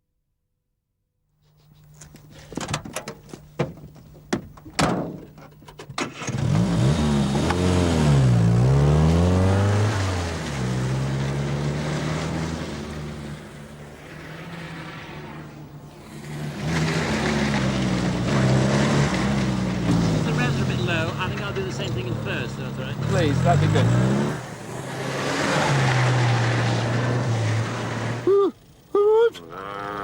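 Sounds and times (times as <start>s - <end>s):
car engine idling and revving: 5.6s - 30.0s.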